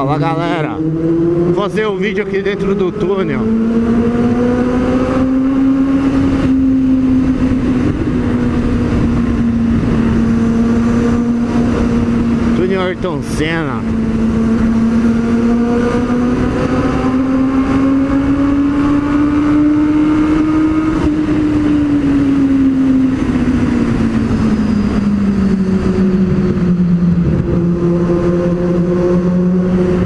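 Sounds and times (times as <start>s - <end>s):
motorcycle engine in a tunnel: 0.0s - 30.0s.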